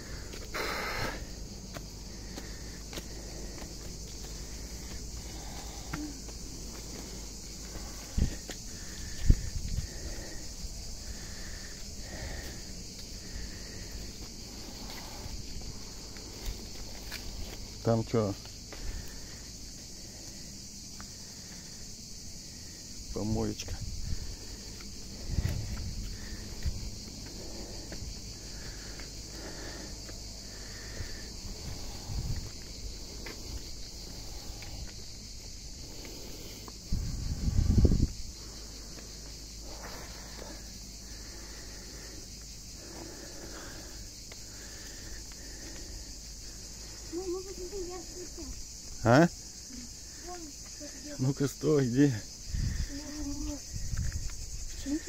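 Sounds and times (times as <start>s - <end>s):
insect chorus chirring: 0.0s - 55.0s.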